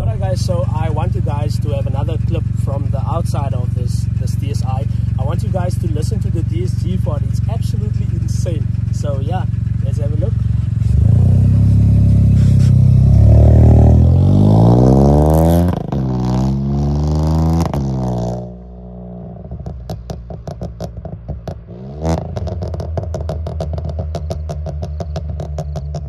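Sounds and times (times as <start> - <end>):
car engine accelerating: 0.0 - 26.0
sharp exhaust crack on upshift: 0.0 - 26.0.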